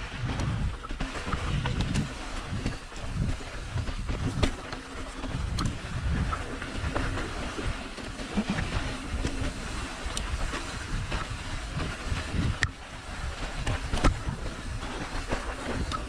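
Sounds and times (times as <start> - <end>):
bike rattling over rough trail: 0.0 - 16.0.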